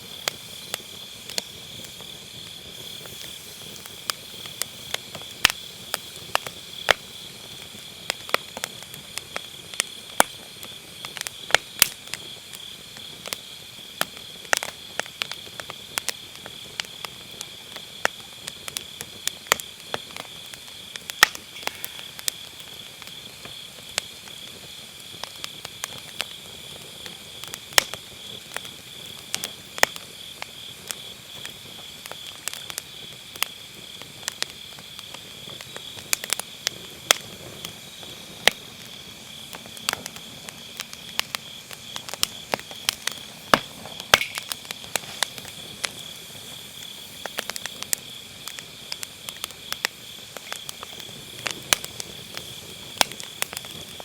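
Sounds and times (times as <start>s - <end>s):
grass insects chirring: 0.0s - 11.9s, 19.4s - 30.7s, 31.7s - 54.0s
firewood crackling and popping: 0.0s - 54.0s.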